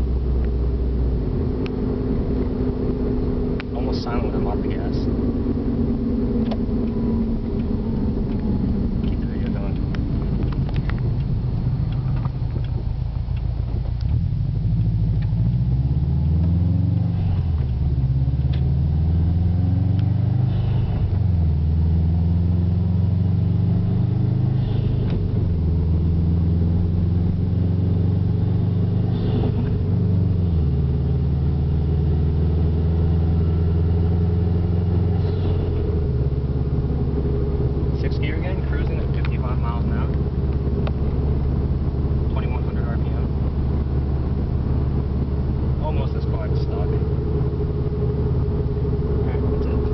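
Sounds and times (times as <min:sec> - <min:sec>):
car engine rumble: 0:00.0 - 0:49.9.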